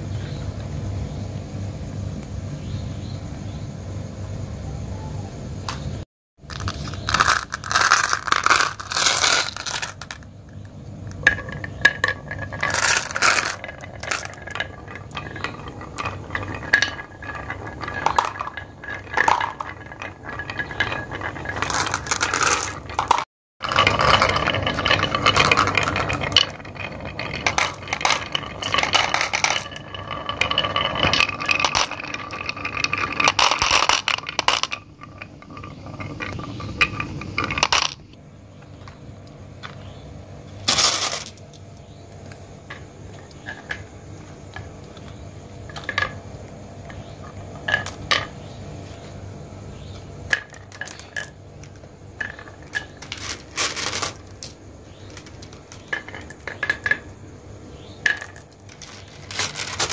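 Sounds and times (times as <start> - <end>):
marbles rolling in wooden grooves: 4.6 - 59.9
marbles clinking into plastic truck: 5.0 - 59.9
marbles clicking and clinking: 5.2 - 38.2, 40.6 - 41.6, 42.6 - 48.5, 49.9 - 57.2, 57.8 - 59.9.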